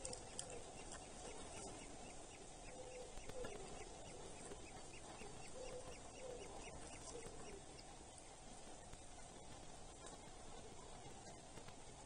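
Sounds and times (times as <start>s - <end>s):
faint birdsong and calls: 0.0s - 12.0s
steady hiss: 0.0s - 12.0s.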